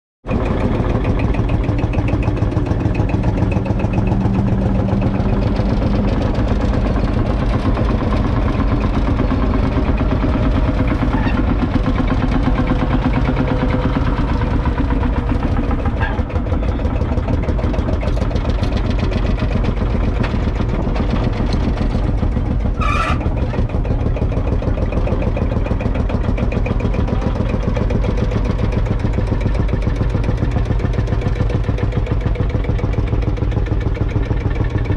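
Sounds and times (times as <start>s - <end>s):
diesel tractor engine running: 0.2s - 34.9s.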